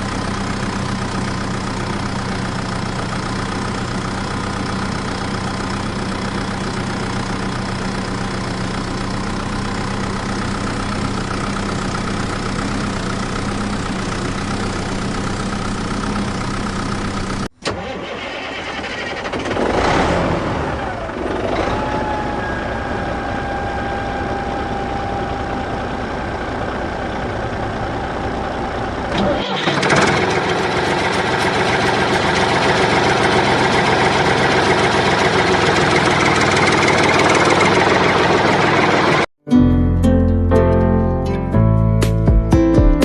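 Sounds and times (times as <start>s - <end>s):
vehicle engine whining: 0.0s - 39.3s.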